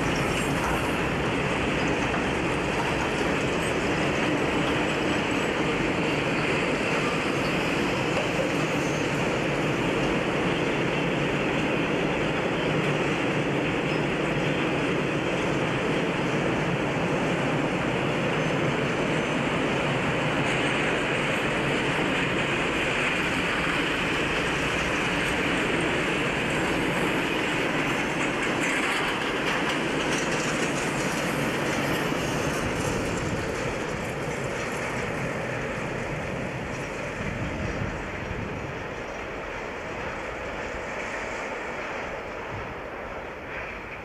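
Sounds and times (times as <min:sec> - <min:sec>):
freight train wheels on rails: 0:00.0 - 0:44.0.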